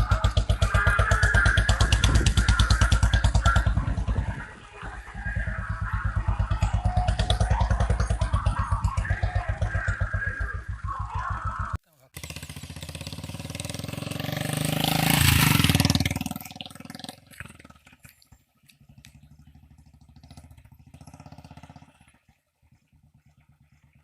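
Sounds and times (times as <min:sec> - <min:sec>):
motorcycle engine revving and idling: 0:00.0 - 0:24.0.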